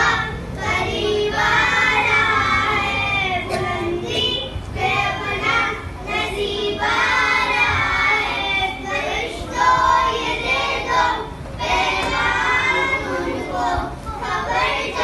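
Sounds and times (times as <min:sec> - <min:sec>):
boys singing together: 0:00.0 - 0:15.0.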